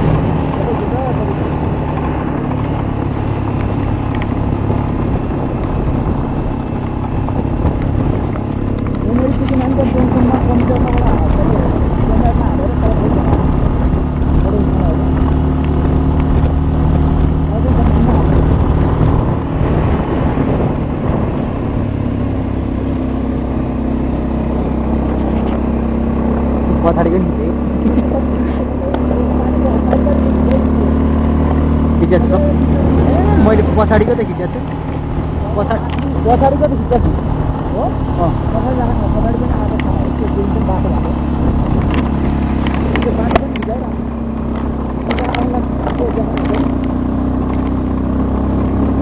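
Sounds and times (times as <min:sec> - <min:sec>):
road noise rumble: 0:00.0 - 0:49.0
vehicle engine hum: 0:00.0 - 0:49.0.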